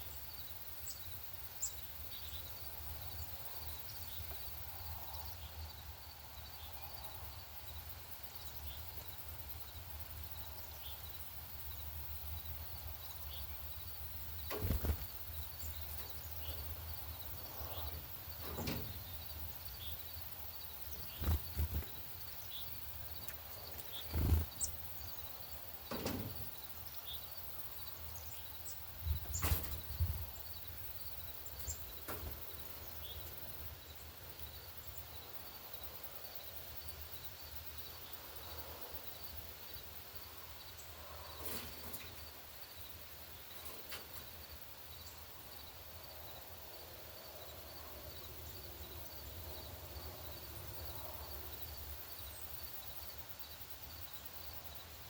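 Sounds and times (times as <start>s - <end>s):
small birds chipping: 0.0s - 55.0s.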